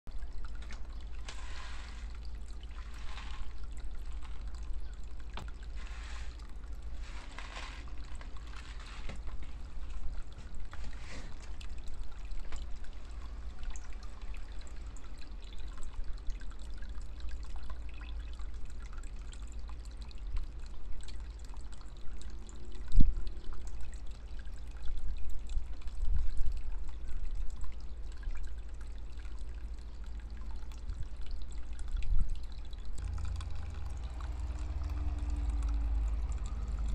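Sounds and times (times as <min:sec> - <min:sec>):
water trickling into pond: 0:00.0 - 0:36.9.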